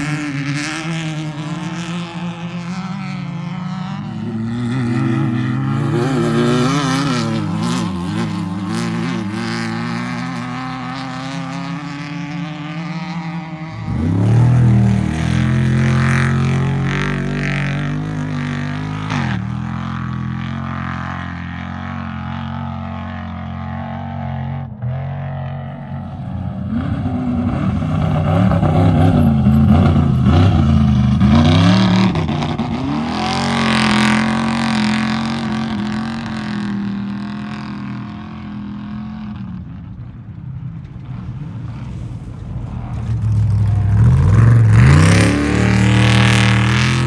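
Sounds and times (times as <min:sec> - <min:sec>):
race engines revving: 0:00.0 - 0:47.0.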